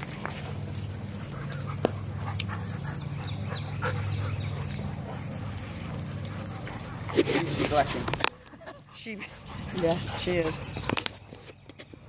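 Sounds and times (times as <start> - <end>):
dogs panting: 0.0 - 12.0
low hum: 0.0 - 12.0.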